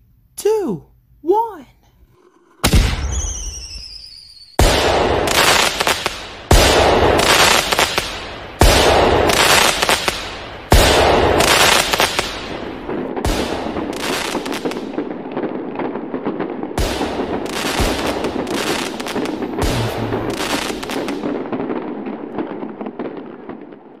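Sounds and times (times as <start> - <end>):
fireworks bangs and crackling: 2.2 - 24.0.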